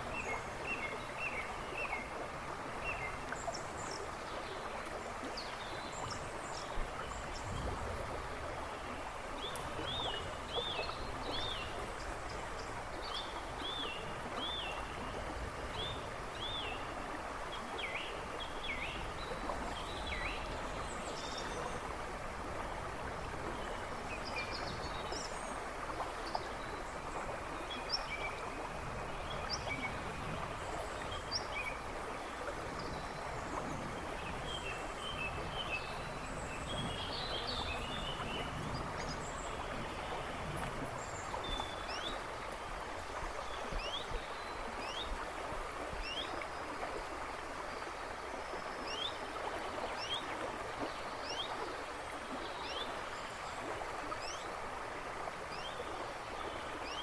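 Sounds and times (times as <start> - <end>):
river rushing and babbling: 0.0 - 57.0.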